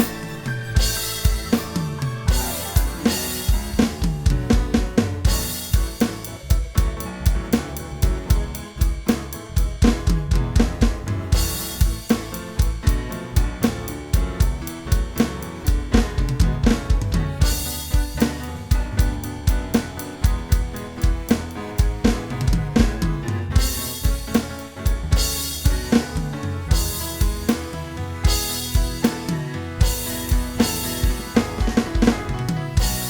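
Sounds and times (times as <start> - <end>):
drum kit beat: 0.0 - 33.0.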